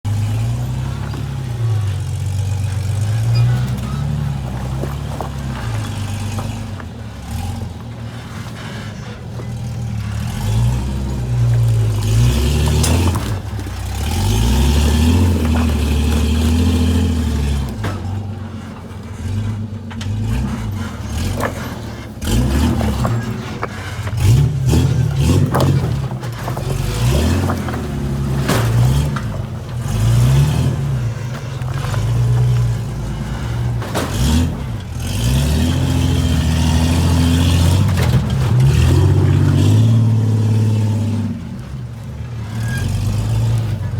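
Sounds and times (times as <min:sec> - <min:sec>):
off-road engine revving: 0:00.0 - 0:43.9.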